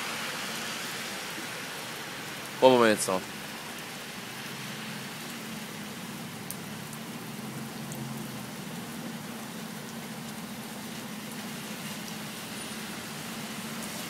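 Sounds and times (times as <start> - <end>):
city traffic hum: 0.0 - 14.0
steady rain falling: 0.0 - 14.0.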